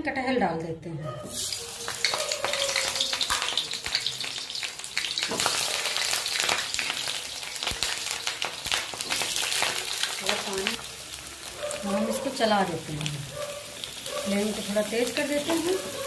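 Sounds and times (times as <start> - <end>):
food sizzling in hot oil: 1.2 - 16.0.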